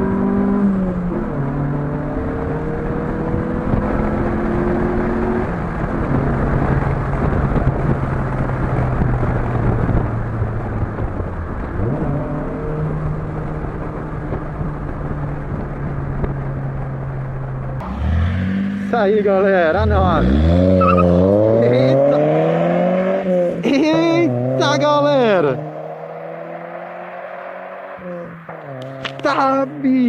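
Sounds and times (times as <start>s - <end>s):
car engine with sports exhaust: 0.0s - 30.0s.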